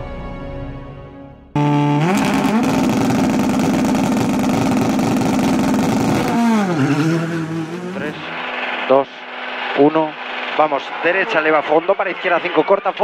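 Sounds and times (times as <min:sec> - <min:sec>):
rally car engine revving: 0:01.6 - 0:13.0.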